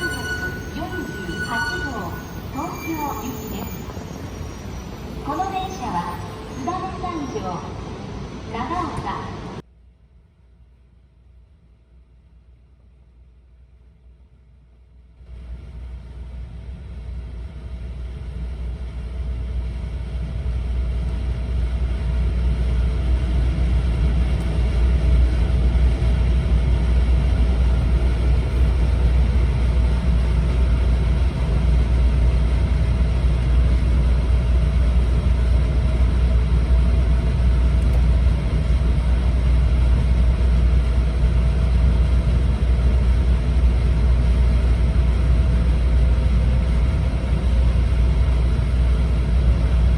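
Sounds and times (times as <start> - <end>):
train cabin low rumble: 0.0 - 9.7, 11.7 - 49.9.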